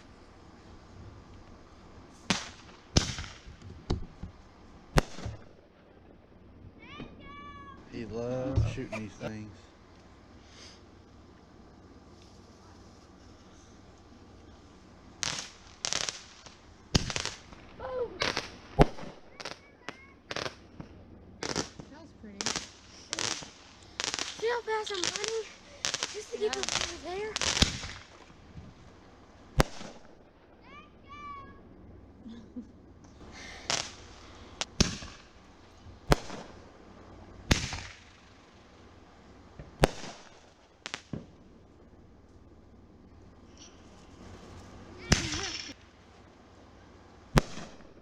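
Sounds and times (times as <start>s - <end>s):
fireworks bangs and crackling: 0.0s - 11.0s, 12.0s - 31.6s, 33.0s - 48.0s.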